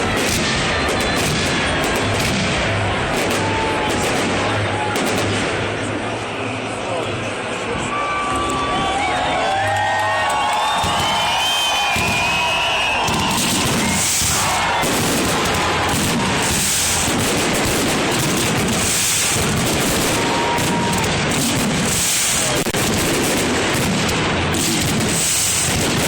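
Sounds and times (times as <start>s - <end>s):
fireworks bangs and crackles: 0.0s - 7.0s, 10.3s - 26.0s.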